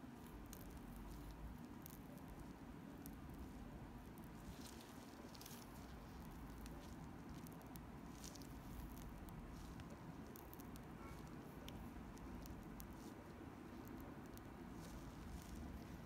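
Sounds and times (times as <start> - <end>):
low room rumble: 0.0 - 16.0
plastic piping bag crinkling: 0.0 - 16.0.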